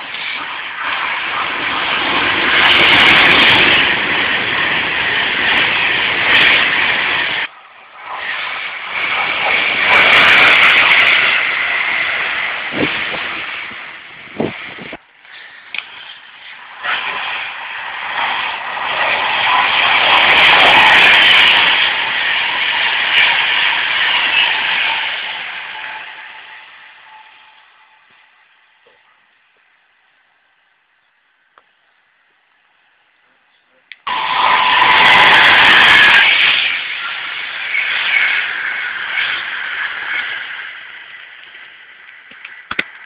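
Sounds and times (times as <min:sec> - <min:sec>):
express trains rushing past: 0:00.0 - 0:29.0, 0:34.0 - 0:43.0.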